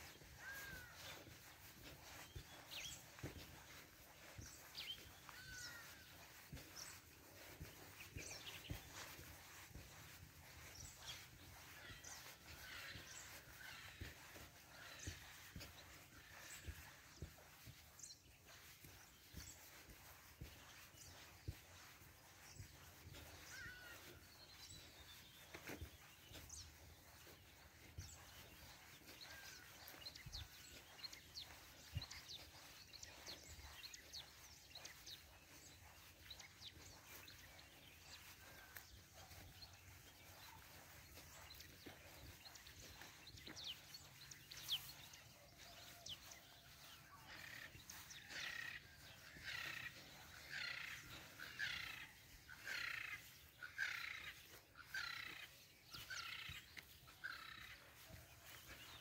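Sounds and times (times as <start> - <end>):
birds chirping: 0.0 - 59.0
loud repeated bird calls: 0.0 - 59.0.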